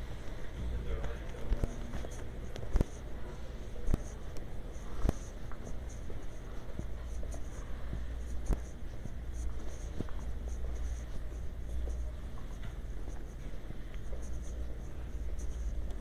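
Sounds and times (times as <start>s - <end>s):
microphone rubbing on clothing: 0.0s - 16.0s.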